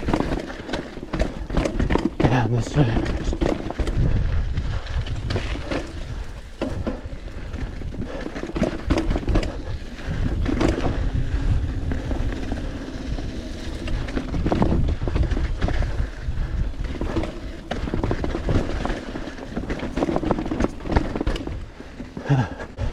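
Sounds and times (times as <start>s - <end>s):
bike tyres crunching on rocks: 0.0s - 22.5s
bike rattling and knocking: 0.0s - 22.9s
wind rumbling on microphone: 0.0s - 22.9s.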